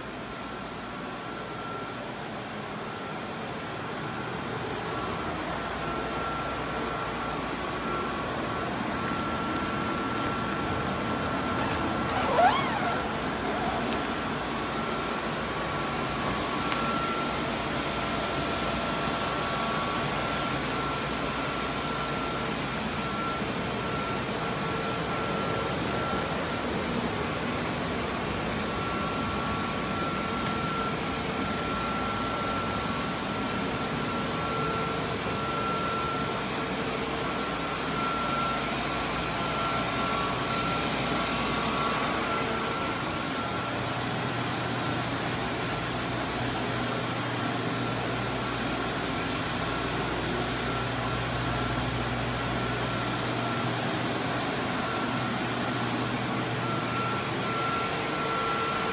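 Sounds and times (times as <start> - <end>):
thin steady whine: 0.0 - 58.9.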